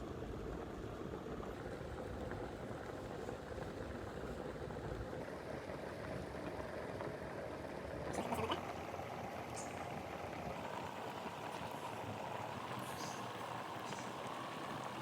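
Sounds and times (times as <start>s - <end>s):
pot of water boiling: 0.1s - 15.0s.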